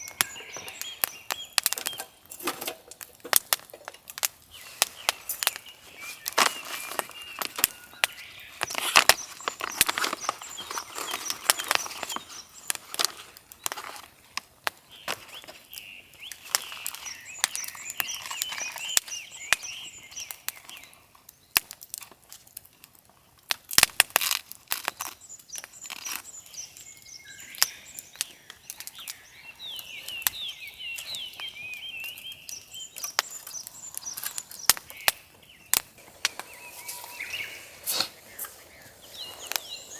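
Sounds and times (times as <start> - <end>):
songbirds chirping: 0.0 - 23.5, 24.5 - 39.9.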